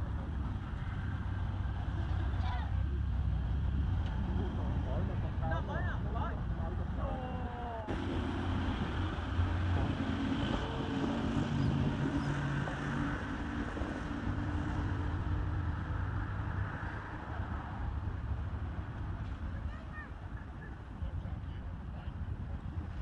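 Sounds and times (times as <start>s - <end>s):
motor running with low rumble: 0.0s - 23.0s
wind on microphone: 0.0s - 23.0s.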